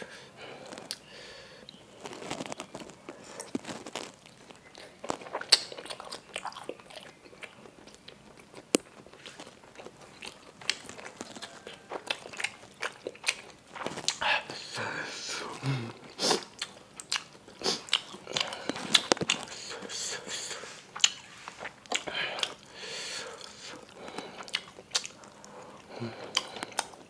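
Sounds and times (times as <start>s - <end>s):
wet chewing and biting: 1.7s - 14.2s, 16.0s - 19.8s, 20.8s - 27.0s.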